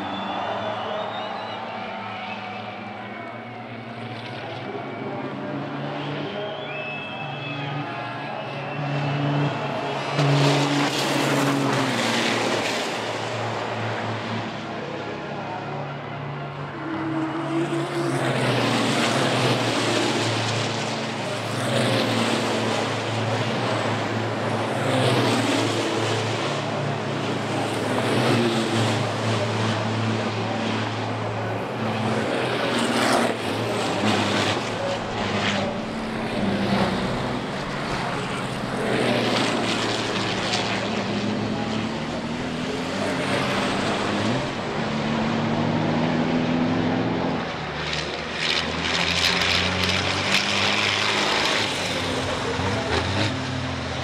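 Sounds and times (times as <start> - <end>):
racing truck engines accelerating: 0.0 - 54.0.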